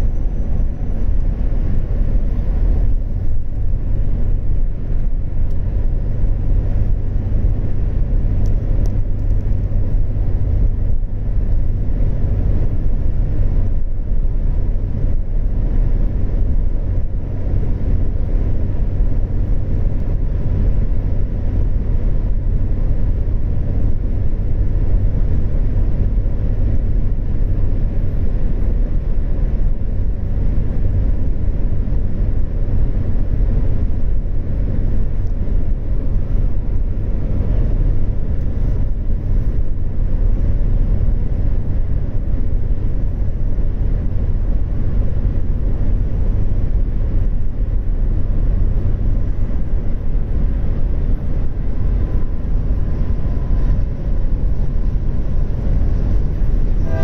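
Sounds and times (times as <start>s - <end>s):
road and wind noise in car: 0.0s - 57.0s.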